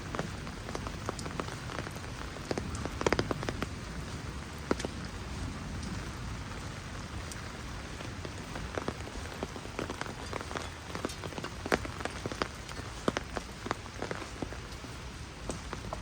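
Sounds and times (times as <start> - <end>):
heavy rain: 0.0 - 16.0
large raindrops splatting: 0.0 - 16.0.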